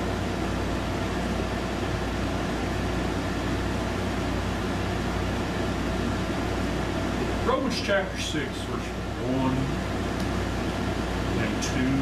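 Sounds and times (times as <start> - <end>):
low constant hum: 0.0 - 12.0
ventilation hiss: 0.0 - 12.0.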